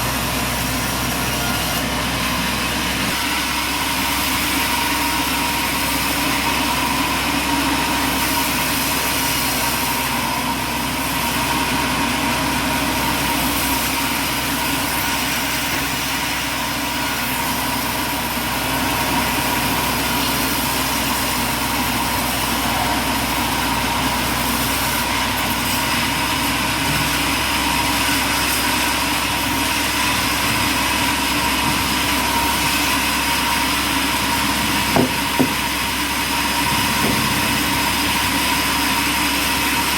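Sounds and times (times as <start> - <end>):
heavy machinery drone: 0.0 - 39.9
steady whine: 0.0 - 39.9.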